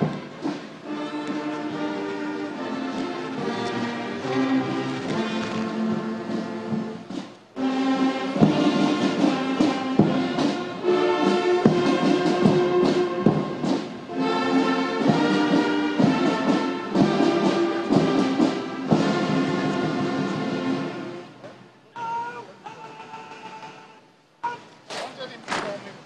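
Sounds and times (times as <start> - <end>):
brass band playing: 0.0 - 24.1
drum strokes: 0.0 - 25.3.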